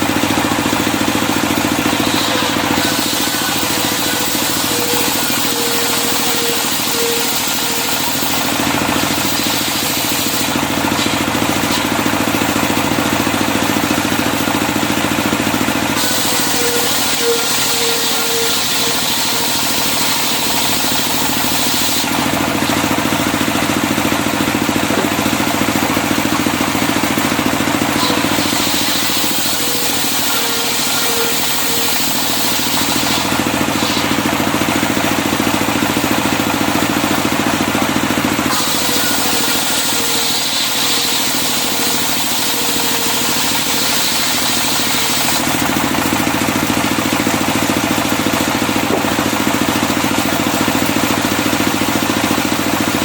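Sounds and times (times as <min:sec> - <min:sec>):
circular sawmill sawing timber: 0:00.0 - 0:53.0.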